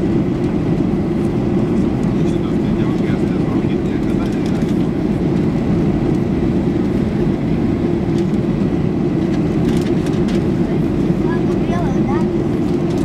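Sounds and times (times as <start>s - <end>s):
jet engine and airflow roar: 0.0s - 13.0s.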